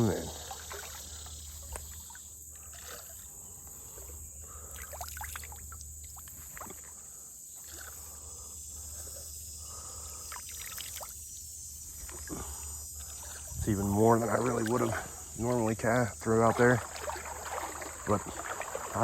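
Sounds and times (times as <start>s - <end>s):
faint water splashes: 0.0s - 19.0s
insects droning: 0.0s - 19.0s.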